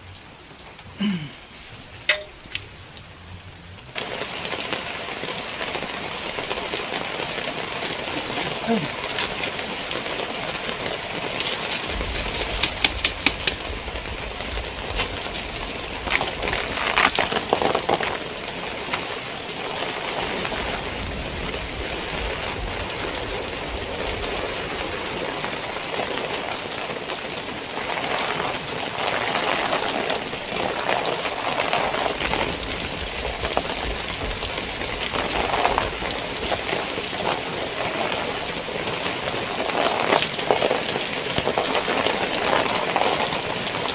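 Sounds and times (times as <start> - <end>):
heavy rain on a tent: 0.0 - 43.9.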